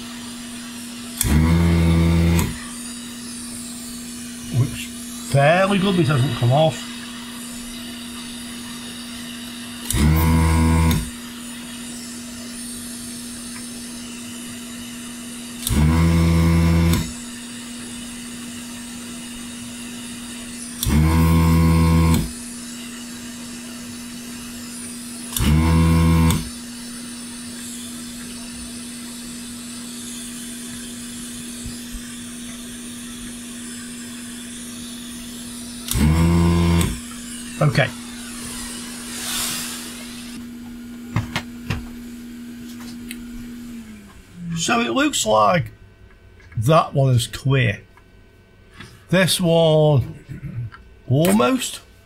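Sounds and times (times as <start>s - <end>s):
desoldering pump bursts: 0.0s - 42.2s
steady low hum: 0.0s - 52.0s.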